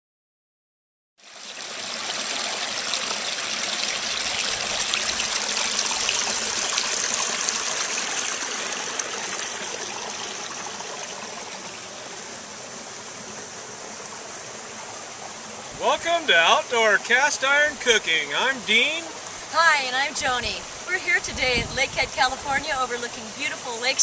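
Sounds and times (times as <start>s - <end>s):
water rushing over stones: 1.2s - 24.0s.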